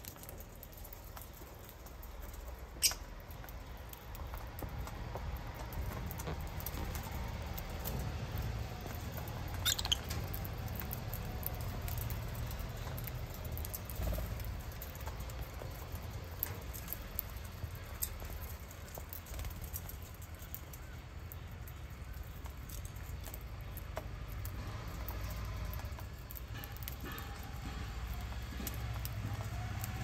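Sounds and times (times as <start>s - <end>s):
birds cracking seeds: 0.0s - 27.4s.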